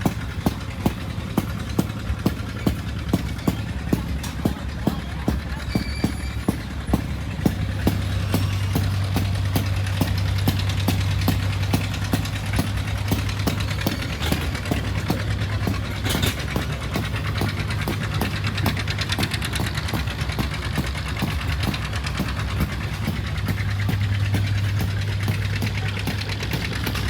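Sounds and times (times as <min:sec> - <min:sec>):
farm machinery engine knocking: 0:00.0 - 0:27.0.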